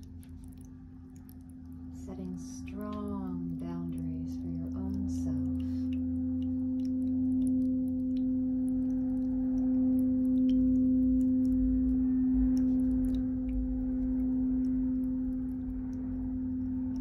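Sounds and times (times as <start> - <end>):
low hum: 0.0 - 17.0
pure tone drone: 0.0 - 17.0.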